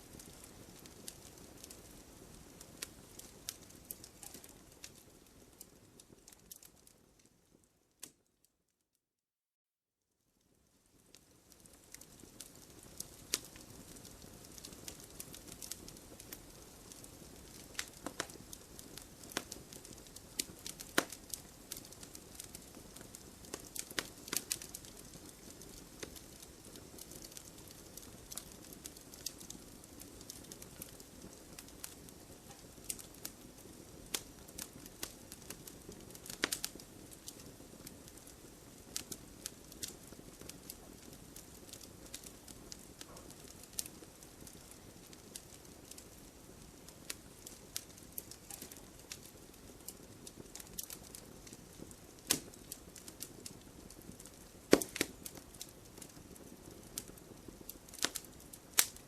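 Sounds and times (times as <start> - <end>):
firewood crackling and popping: 0.0 - 8.3, 10.7 - 59.0.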